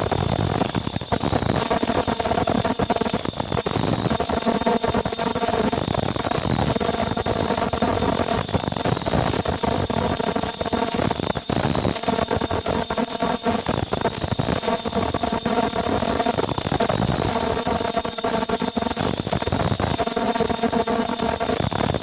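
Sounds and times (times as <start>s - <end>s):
machine whine: 0.0s - 22.0s.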